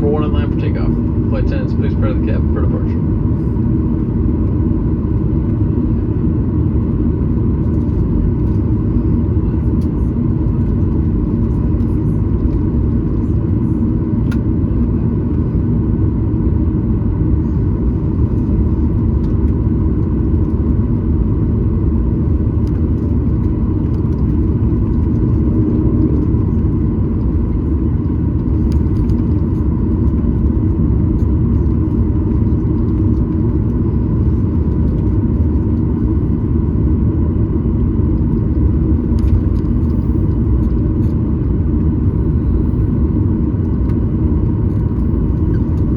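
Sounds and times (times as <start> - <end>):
aircraft cabin engine rumble: 0.0 - 45.9
faint hum: 0.0 - 45.9.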